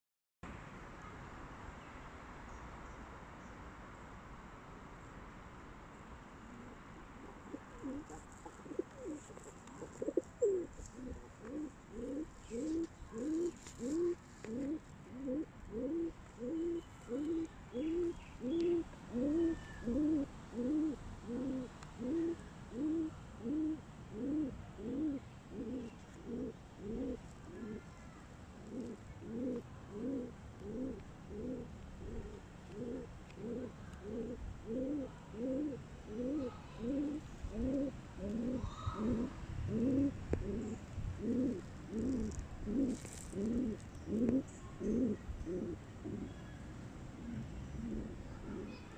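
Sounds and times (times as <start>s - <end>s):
pigeon cooing: 7.2s - 27.9s, 28.6s - 46.4s, 47.2s - 48.9s.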